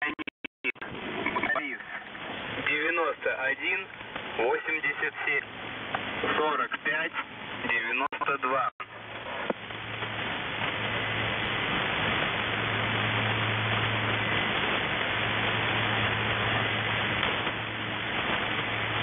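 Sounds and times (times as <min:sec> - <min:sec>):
low steady hum: 0:00.0 - 0:19.0
radio static hiss: 0:00.0 - 0:19.0.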